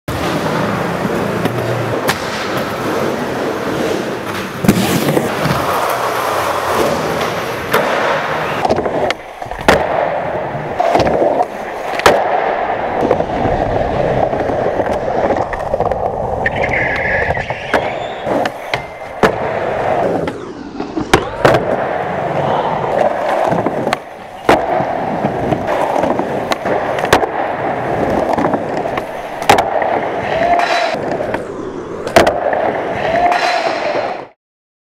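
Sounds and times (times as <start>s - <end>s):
skateboard wheels rolling: 0.1s - 34.3s
skateboard pops and landings: 4.3s - 6.0s, 6.8s - 22.2s, 22.9s - 34.3s.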